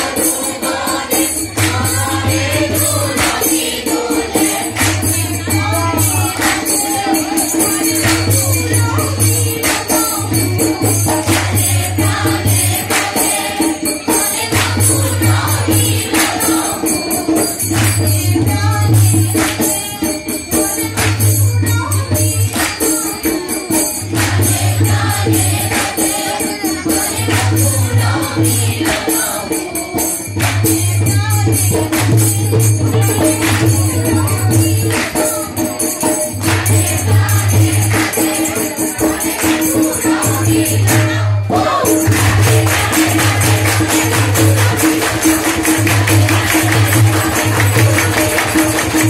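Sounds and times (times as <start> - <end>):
hand claps: 0.0 - 18.5, 19.3 - 21.5, 22.3 - 27.8, 28.7 - 29.6, 30.4 - 31.0, 31.7 - 41.1, 42.0 - 49.0
chorus of young voices singing: 0.0 - 49.0
percussion: 0.0 - 49.0.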